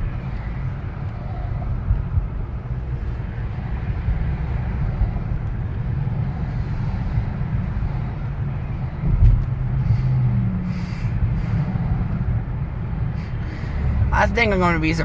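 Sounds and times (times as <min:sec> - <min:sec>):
car engine and tyre road noise: 0:00.0 - 0:15.0.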